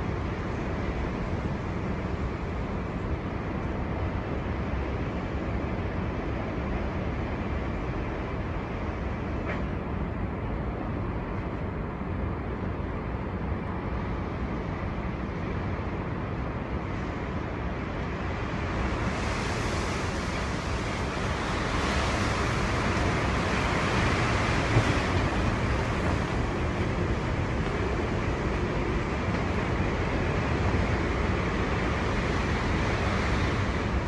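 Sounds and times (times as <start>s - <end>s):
storm wind rumbling: 0.0s - 34.0s.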